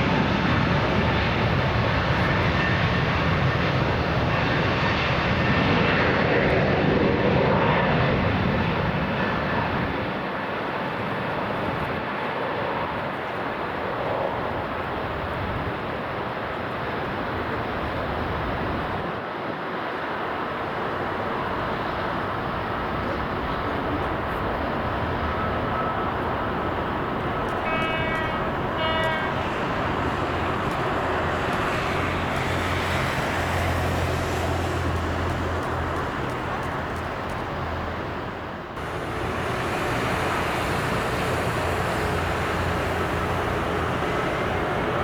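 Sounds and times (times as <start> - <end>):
jet engines rushing: 0.0 - 45.0.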